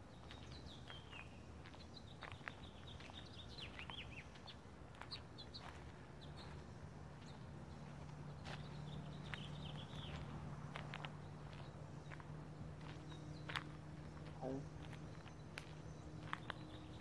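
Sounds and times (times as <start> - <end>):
songbirds chirping: 0.0 - 17.0
footsteps on gravel: 0.1 - 17.0.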